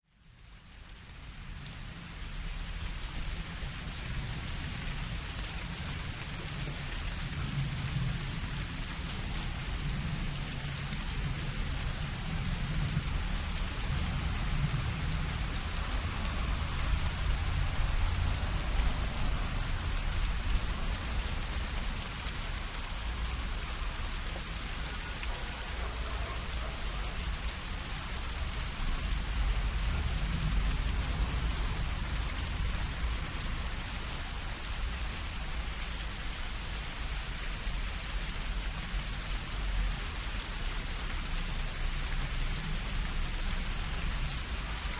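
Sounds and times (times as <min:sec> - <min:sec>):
rain falling on leaves: 0:00.0 - 0:44.9.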